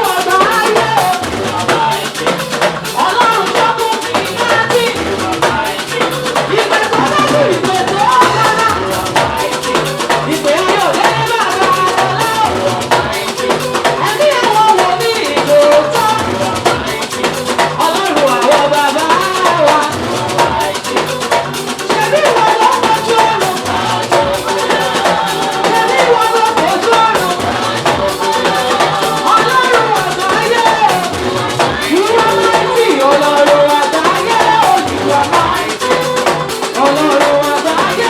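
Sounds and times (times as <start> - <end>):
drum kit: 0.0 - 38.0
live praise band playing: 0.0 - 38.0
shaker: 0.0 - 38.0.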